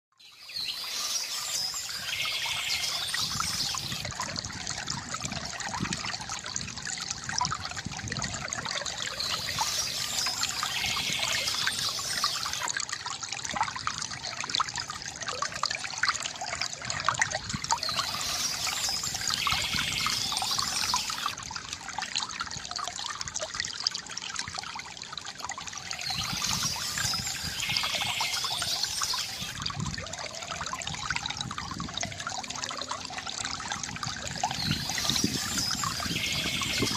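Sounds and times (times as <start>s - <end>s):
water trickling from bamboo fountain: 0.2s - 36.9s.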